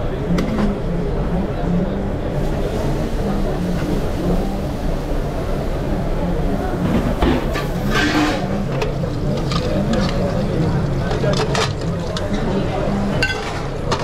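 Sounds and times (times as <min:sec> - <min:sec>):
busy kitchen rumble: 0:00.0 - 0:14.0.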